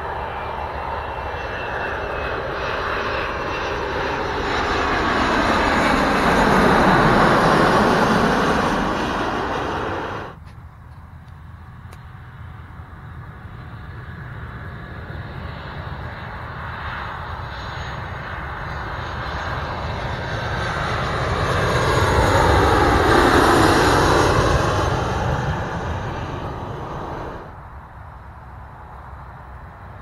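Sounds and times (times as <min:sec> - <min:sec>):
jet airliner engine noise: 0:00.0 - 0:30.0.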